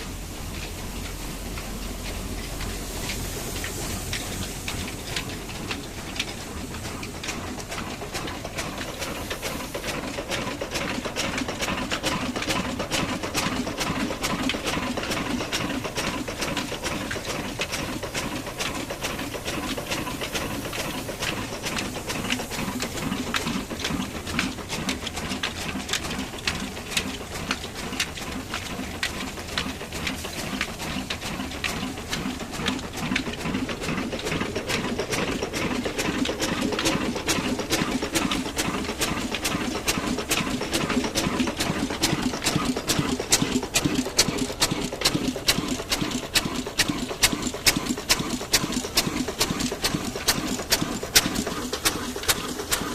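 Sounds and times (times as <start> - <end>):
flour mill mechanical clatter: 0.0 - 52.9.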